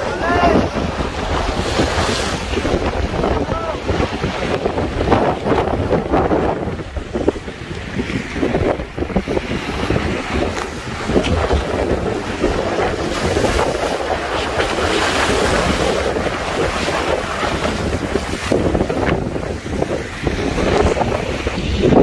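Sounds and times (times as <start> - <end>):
big waves splashing around boat: 0.0 - 22.0
wind buffeting microphone: 0.0 - 22.0.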